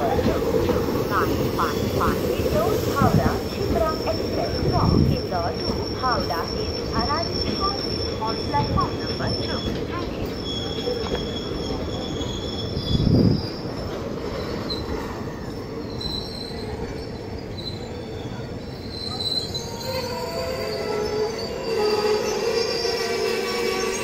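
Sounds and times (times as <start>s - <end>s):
train coaches rumbling on rails: 0.0s - 24.0s
high-pitched wheel squeals: 1.5s - 24.0s.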